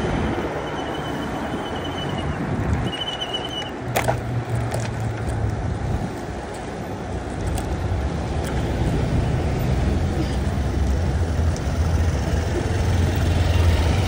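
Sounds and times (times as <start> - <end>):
air rush and road noise: 0.0 - 14.0
van engine humming: 0.0 - 14.0.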